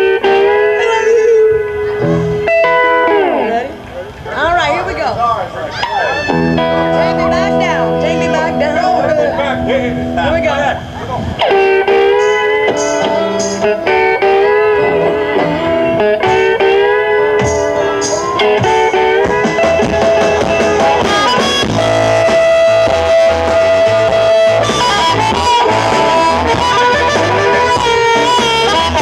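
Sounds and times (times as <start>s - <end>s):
held lead guitar note: 0.0s - 5.1s, 5.7s - 29.0s
electric blues band playing: 0.0s - 29.0s.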